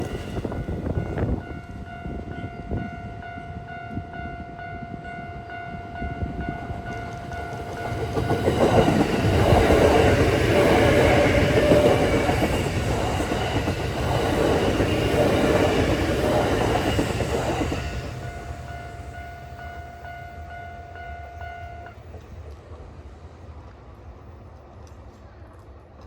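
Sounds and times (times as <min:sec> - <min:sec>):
level-crossing warning bell: 0:00.0 - 0:22.2
electric train passing: 0:00.0 - 0:26.0.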